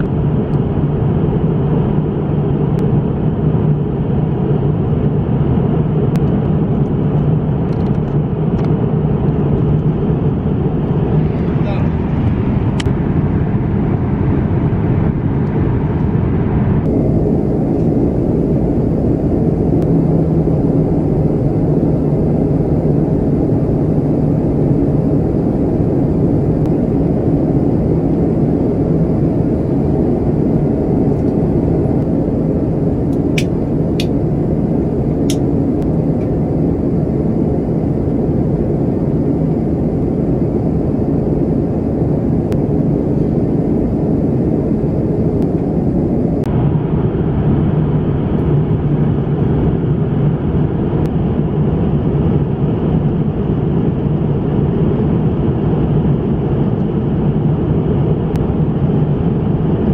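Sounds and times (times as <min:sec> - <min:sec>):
airliner engine and airflow rush: 0:00.0 - 0:59.9
low hum: 0:00.0 - 0:59.9.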